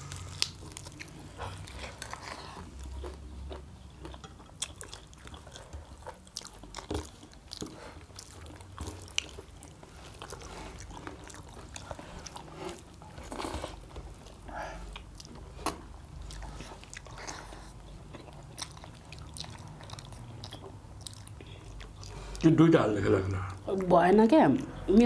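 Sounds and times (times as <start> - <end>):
chewing with crunching bones: 0.0 - 24.9.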